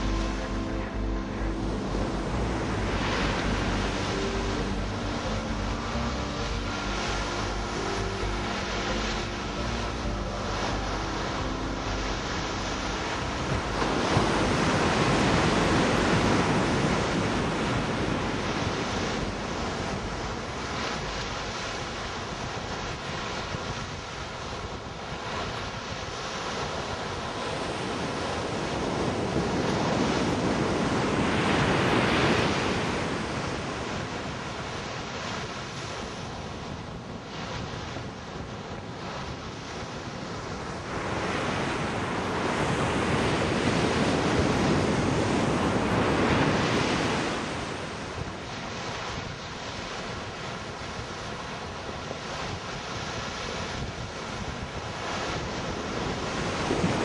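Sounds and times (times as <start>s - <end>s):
waves breaking on beach: 0.0s - 57.0s
wind on microphone: 0.0s - 57.0s.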